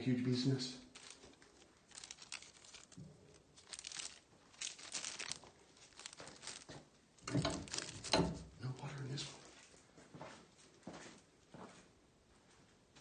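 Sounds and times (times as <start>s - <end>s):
faint crinkling and rustling: 0.8s - 13.0s.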